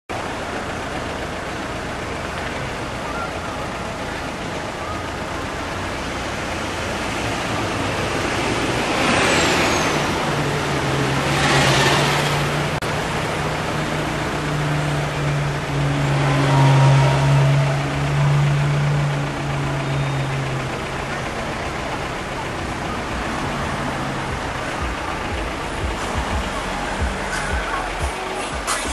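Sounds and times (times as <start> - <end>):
cars passing: 0.1 - 28.9
truck engine droning: 0.1 - 28.9.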